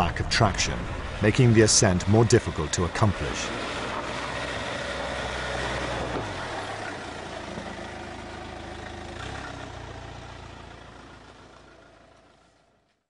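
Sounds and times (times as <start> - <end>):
car engine driving through snow: 2.0 - 13.0.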